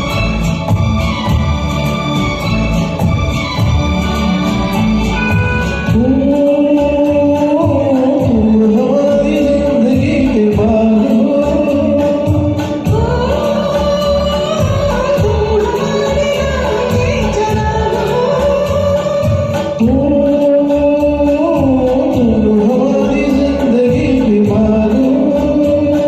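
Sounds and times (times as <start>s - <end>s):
karaoke backing track: 0.0s - 26.0s
person singing: 2.9s - 26.0s.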